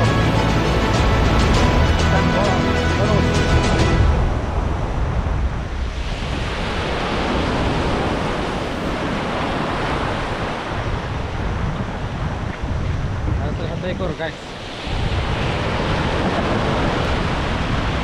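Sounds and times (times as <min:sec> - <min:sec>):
waves breaking and rushing: 0:00.0 - 0:18.0
wind buffeting microphone: 0:00.0 - 0:18.0.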